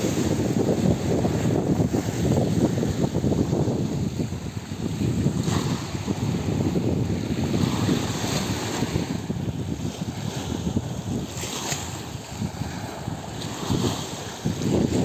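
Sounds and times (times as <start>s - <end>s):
waves washing against seawall: 0.0s - 15.0s
wind buffeting microphone: 0.0s - 15.0s.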